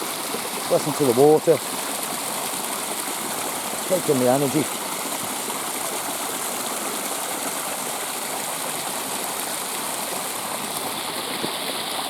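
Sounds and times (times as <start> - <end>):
stream running: 0.0 - 12.0.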